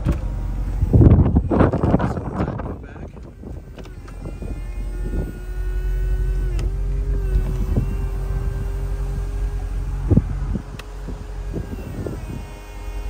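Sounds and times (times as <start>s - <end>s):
car engine idling: 0.0s - 13.0s
electric motor whine: 0.0s - 13.0s.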